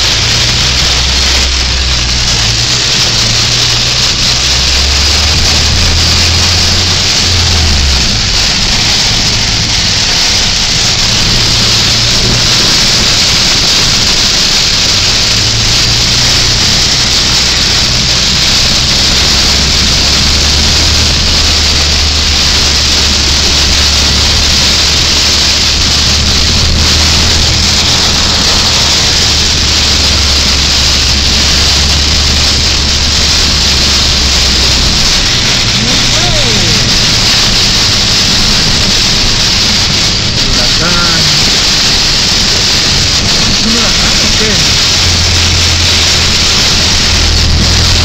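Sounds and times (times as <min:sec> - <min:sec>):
car engine and tyres hum: 0:00.0 - 0:48.0
heavy rain on a car: 0:00.0 - 0:48.0.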